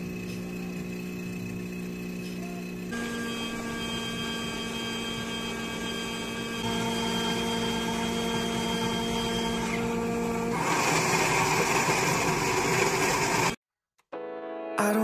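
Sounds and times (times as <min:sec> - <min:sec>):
drink machine motor hum: 0:00.0 - 0:13.6.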